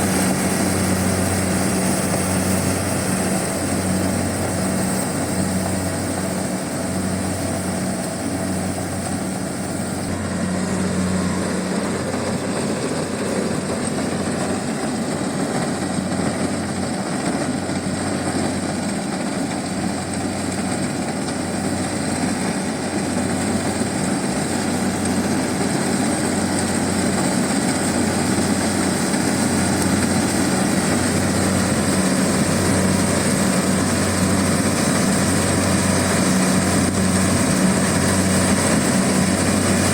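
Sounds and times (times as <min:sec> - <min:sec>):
diesel engine hum: 0:00.0 - 0:39.9.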